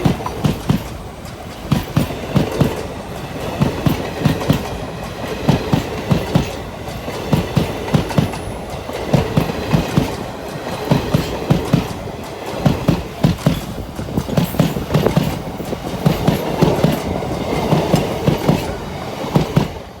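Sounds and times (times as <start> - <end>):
train clickety-clack on rails: 0.0 - 20.0.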